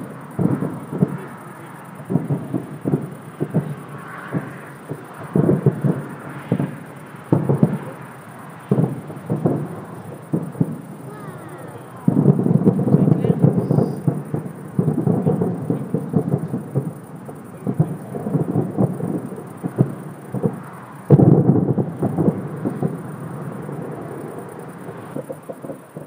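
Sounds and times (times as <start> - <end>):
fireworks booms and crackles: 0.0 - 26.0.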